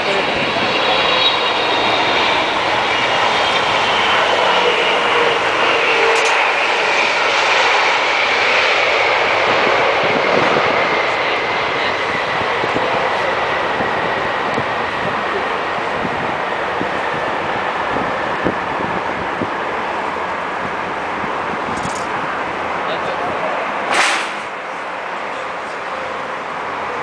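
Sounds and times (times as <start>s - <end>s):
jet airliner roar with high whine: 0.0s - 27.0s.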